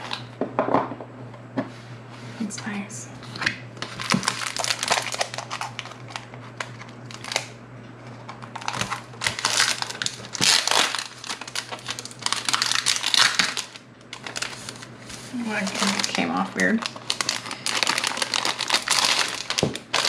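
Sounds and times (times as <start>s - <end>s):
plastic wrap crinkling: 3.4s - 20.0s.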